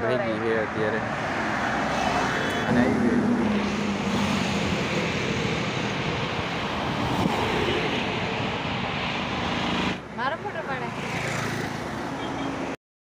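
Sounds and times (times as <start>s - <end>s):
traffic passing by: 0.0s - 12.8s.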